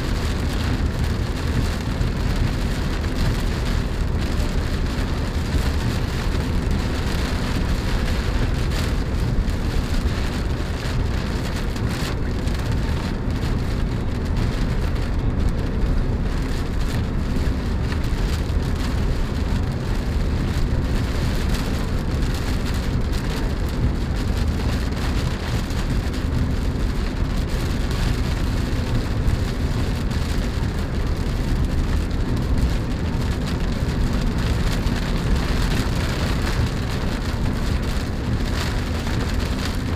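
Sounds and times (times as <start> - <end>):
low driving rumble: 0.0 - 39.9
rain pattering on car roof: 0.0 - 39.9.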